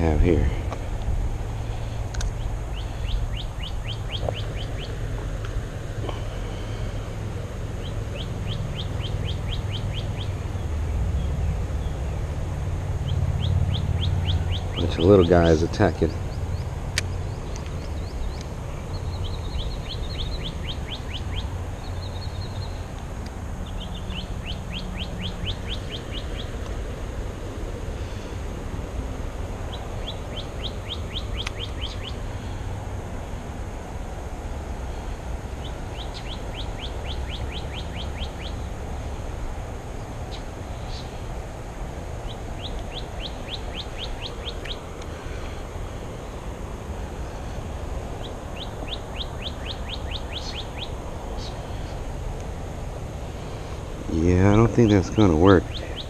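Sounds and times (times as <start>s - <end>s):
songbird trilling: 1.6s - 7.1s, 7.7s - 12.2s, 13.0s - 23.0s, 23.6s - 28.4s, 29.6s - 32.7s, 35.6s - 38.8s, 40.0s - 41.3s, 42.1s - 52.2s, 53.2s - 56.0s.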